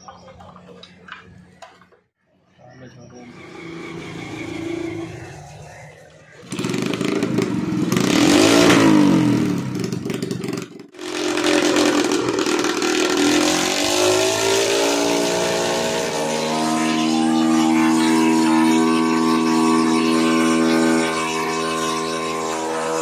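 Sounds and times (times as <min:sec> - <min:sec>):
small motorcycle engine revving: 0:03.1 - 0:23.0.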